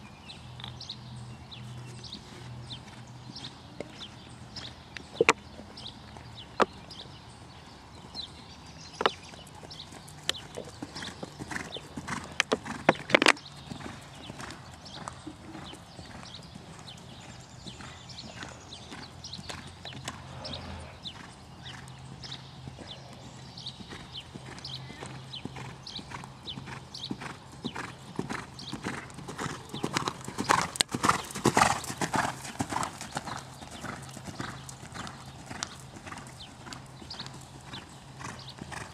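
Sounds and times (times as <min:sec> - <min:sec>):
horse hooves on sand: 0:00.6 - 0:38.9.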